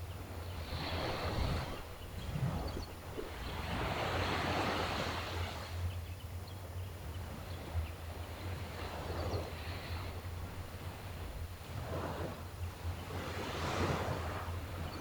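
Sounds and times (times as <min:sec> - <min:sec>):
sea waves washing ashore: 0:00.0 - 0:05.8, 0:08.1 - 0:15.0.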